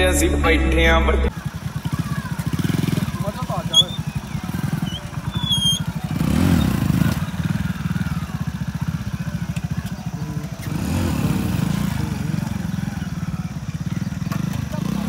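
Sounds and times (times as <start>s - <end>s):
motorcycle engine revving: 1.3s - 15.0s.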